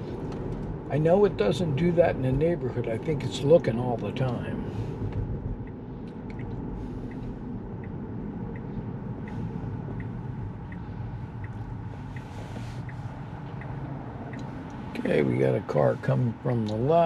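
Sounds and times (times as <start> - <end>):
low cabin hum: 0.0 - 17.0
turn signal ticking: 0.1 - 17.0.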